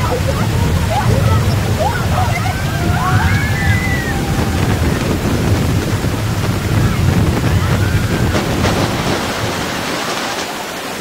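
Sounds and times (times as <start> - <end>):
rushing splashing water: 0.0 - 11.0
wind rumbling on microphone: 0.0 - 11.0.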